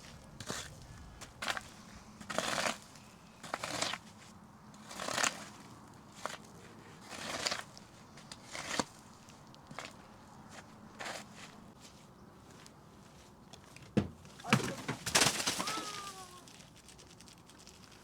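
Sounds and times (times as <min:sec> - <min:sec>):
footsteps crunching on dry ground: 0:00.0 - 0:15.1.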